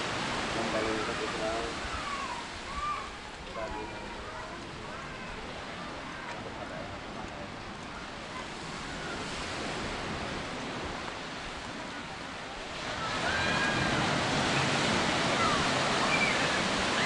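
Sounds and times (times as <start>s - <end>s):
surf washing onto sand: 0.0s - 17.0s.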